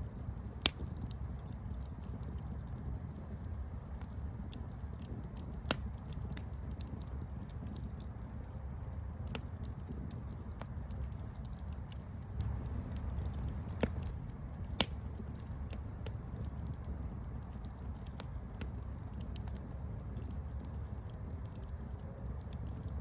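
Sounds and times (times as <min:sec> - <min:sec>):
wood fire crackling: 0:00.0 - 0:23.0
loud fire pops: 0:00.4 - 0:02.4, 0:03.1 - 0:08.2, 0:09.2 - 0:23.0.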